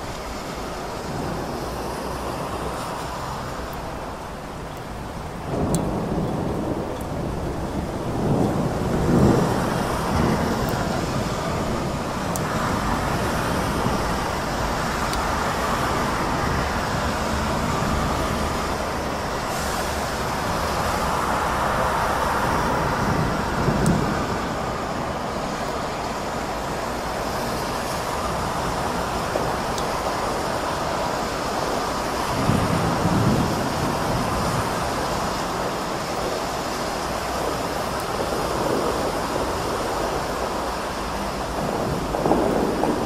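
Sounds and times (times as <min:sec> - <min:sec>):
steady rain: 0:00.0 - 0:43.0
traffic on wet streets: 0:00.0 - 0:43.0.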